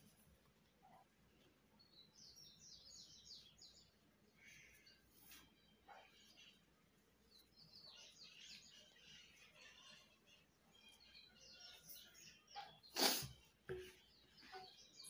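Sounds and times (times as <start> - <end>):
faint high bird chirps: 0.8 - 15.0.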